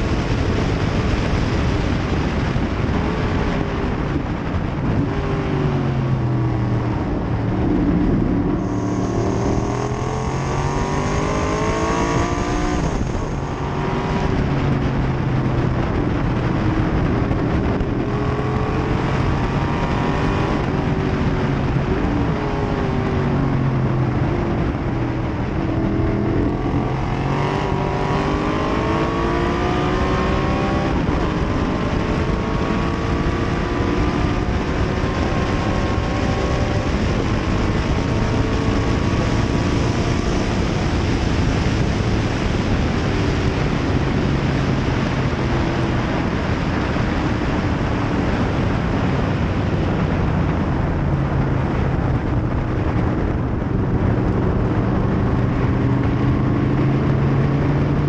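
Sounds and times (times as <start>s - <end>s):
race car engine revving: 0.0s - 46.6s
wind rush: 0.0s - 58.0s.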